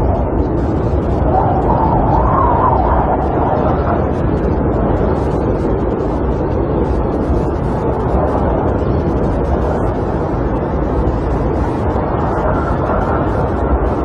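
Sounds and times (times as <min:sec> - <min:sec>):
faint wavering wind howl: 0:00.0 - 0:14.0
wind rushing against camper: 0:00.0 - 0:14.0.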